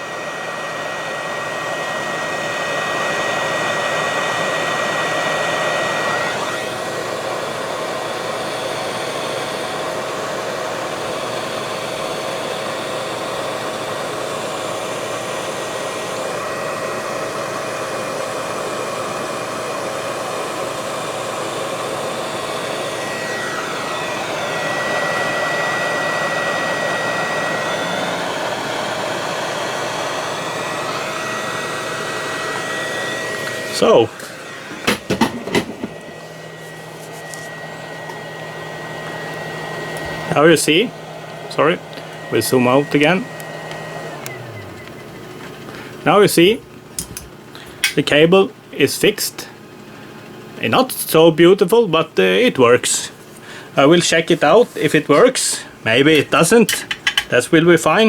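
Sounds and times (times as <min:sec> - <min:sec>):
hot air gun blowing: 0:00.0 - 0:48.1, 0:52.3 - 0:58.0.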